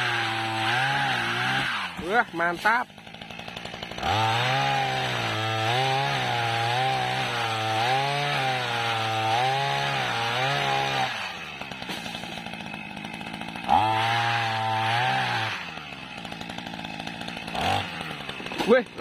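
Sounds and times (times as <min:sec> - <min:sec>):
pole pruner engine revving: 0:00.0 - 0:19.0.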